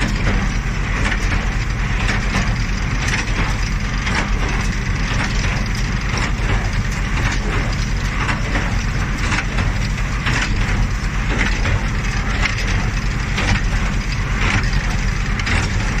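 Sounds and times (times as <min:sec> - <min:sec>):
tractor engine drone: 0:00.0 - 0:16.0.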